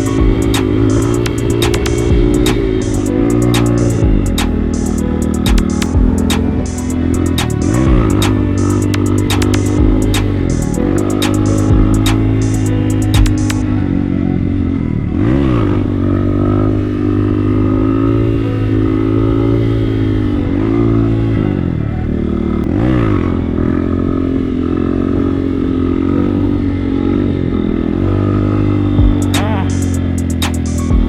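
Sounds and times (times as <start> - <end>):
motorcycle engine running: 0.0 - 21.3, 22.1 - 31.0.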